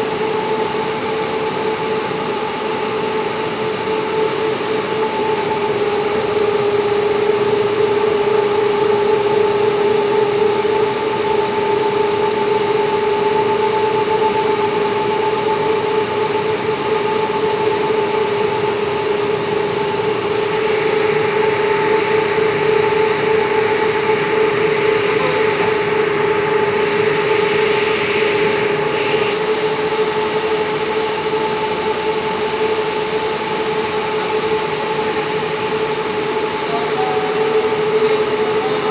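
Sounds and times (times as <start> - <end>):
electrical equipment humming: 0.0 - 38.9
mid-pitched whine: 0.0 - 38.9.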